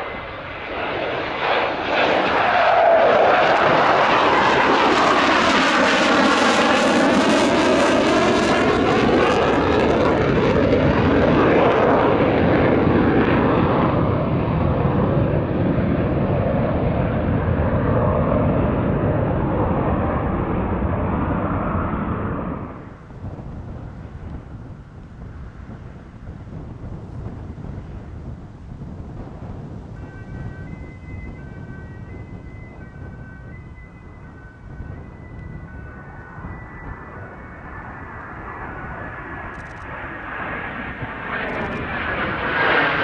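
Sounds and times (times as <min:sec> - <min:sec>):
jet engine roar passing: 0:00.0 - 0:43.0.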